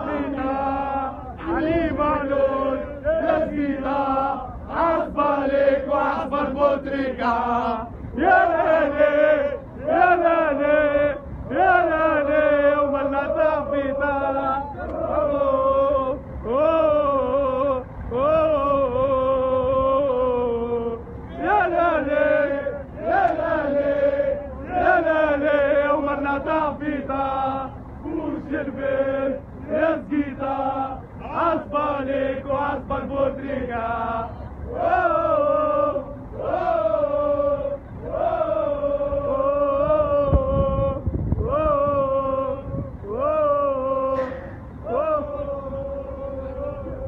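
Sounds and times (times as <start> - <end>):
crowd of men chanting: 0.0 - 47.0.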